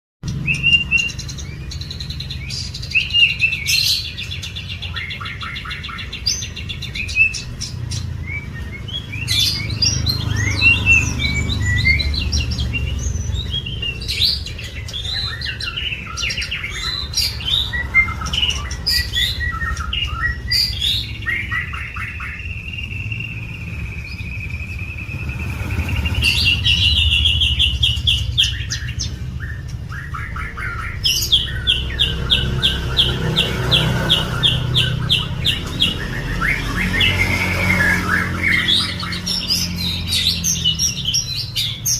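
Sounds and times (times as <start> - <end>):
bird singing whistles and trills: 0.3 - 41.9.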